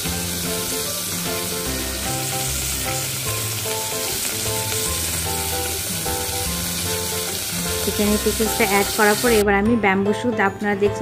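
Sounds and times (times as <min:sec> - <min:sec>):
food sizzling in hot oil: 0:00.0 - 0:09.4
soft background music: 0:00.0 - 0:11.0.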